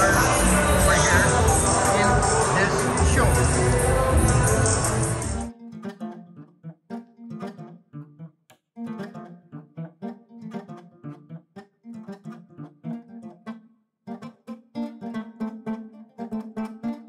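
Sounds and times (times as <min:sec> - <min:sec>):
acoustic guitar plucking melody: 0:00.0 - 0:17.0.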